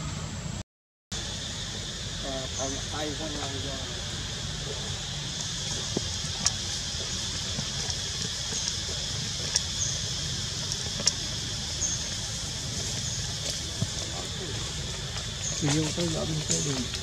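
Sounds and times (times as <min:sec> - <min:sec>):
high hiss: 0:01.2 - 0:17.0.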